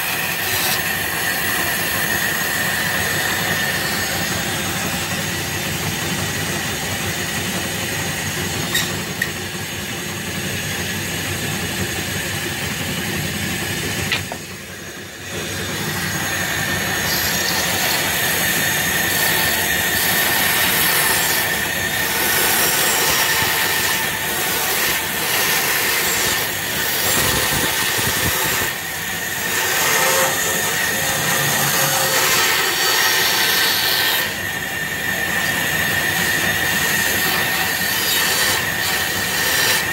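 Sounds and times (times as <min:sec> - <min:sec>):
bandsaw cutting wood: 0:00.0 - 0:39.9.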